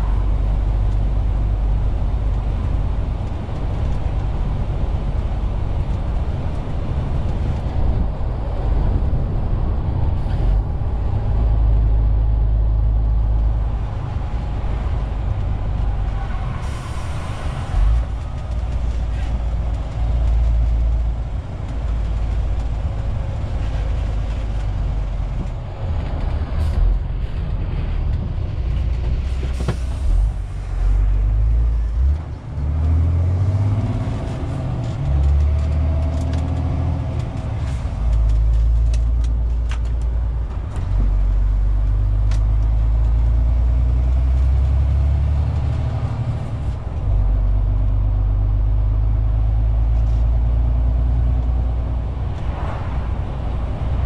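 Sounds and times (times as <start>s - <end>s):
road noise: 0.0s - 54.0s
truck diesel engine: 0.0s - 54.0s.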